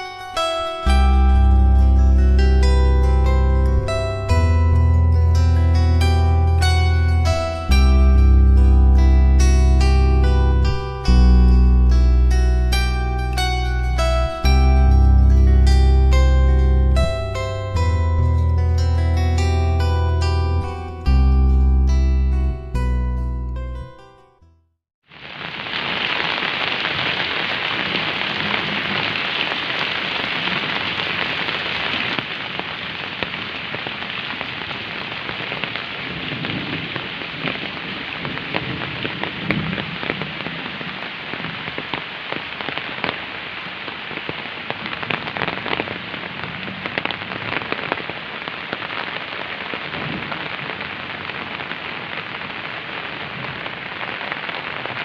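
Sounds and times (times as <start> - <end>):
rain pouring: 0.0 - 21.9, 25.0 - 55.0.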